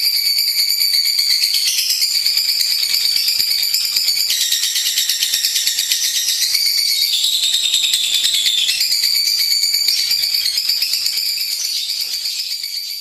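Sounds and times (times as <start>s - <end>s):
lovebird chattering trills: 1.3s - 13.0s.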